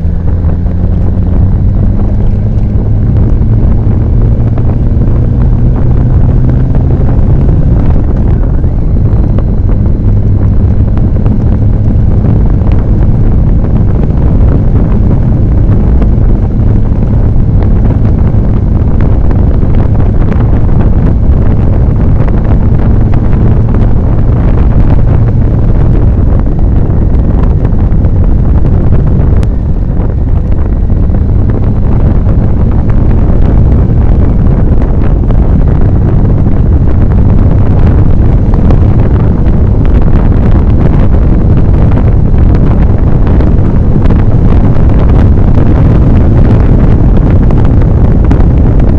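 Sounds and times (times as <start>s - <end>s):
motorcycle engine cruising: 0.0s - 48.7s
wind noise on microphone: 0.0s - 48.9s.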